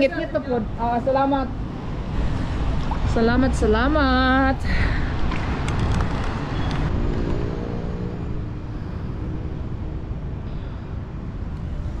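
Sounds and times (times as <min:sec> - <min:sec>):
low rumble of outdoor background: 0:00.0 - 0:12.0.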